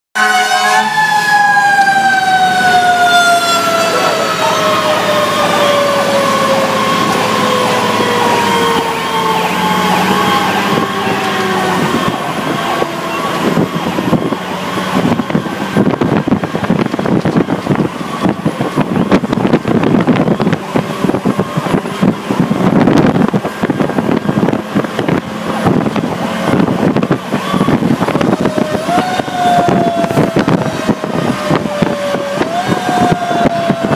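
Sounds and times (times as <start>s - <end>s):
fire truck siren: 0.2s - 33.9s
truck engine and road noise: 0.2s - 33.9s
wind rumble: 0.8s - 33.9s.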